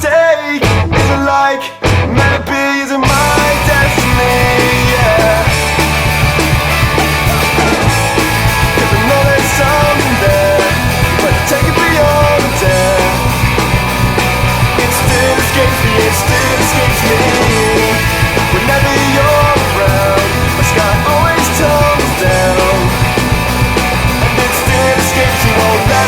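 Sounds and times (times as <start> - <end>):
rock band playing: 0.0 - 26.0
lead guitar with bent notes: 0.6 - 2.4, 3.0 - 26.0.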